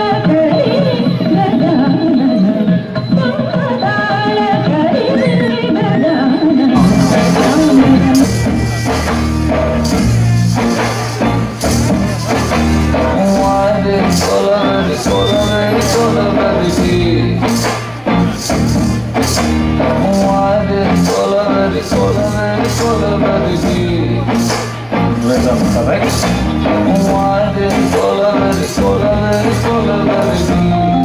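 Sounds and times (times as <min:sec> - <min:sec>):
dance music with singing: 0:00.0 - 0:31.0.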